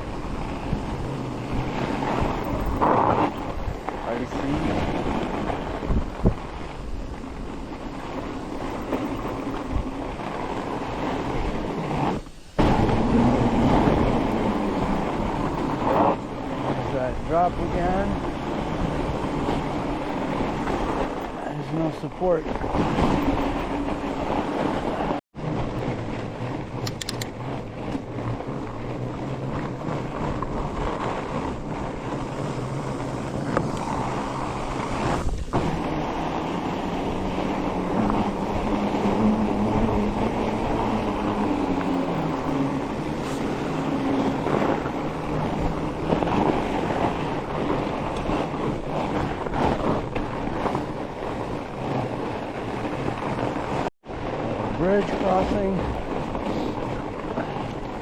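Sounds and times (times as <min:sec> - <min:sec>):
bike tires rolling on snow: 0:00.0 - 0:58.0
wind on microphone: 0:00.0 - 0:58.0.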